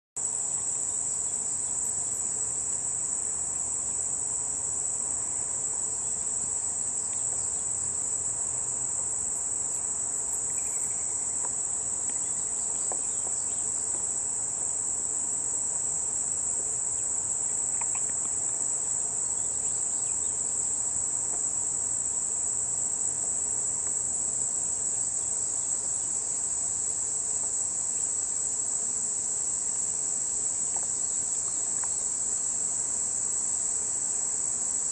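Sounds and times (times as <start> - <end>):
high-pitched insect chorus: 0.2 - 34.9.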